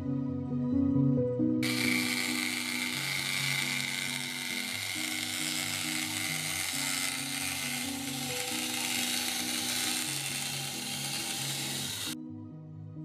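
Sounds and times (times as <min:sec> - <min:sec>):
clockwork motor whirring: 0:01.6 - 0:12.2.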